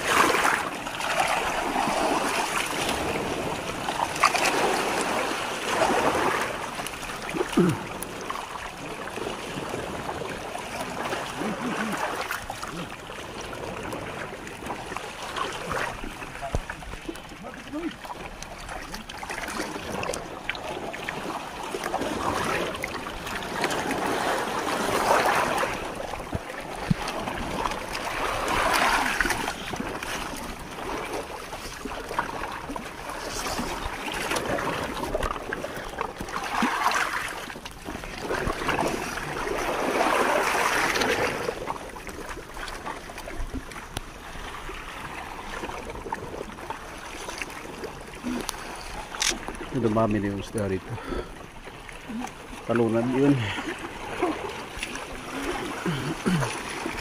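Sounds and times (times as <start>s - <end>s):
sea water splashing: 0.0s - 57.0s.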